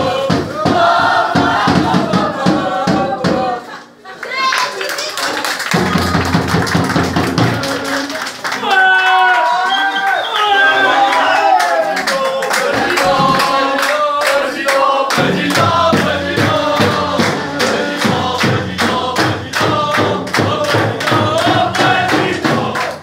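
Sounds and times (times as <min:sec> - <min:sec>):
group chanting in unison: 0:00.0 - 0:03.8, 0:07.0 - 0:09.5, 0:10.2 - 0:23.0
rhythmic hand-clapping: 0:00.0 - 0:08.8, 0:11.1 - 0:23.0.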